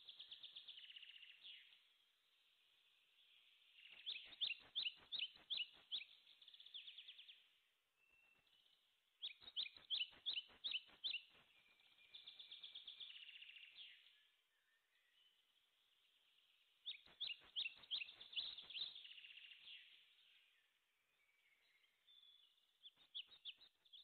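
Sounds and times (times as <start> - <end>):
small bird singing: 0.0 - 24.0.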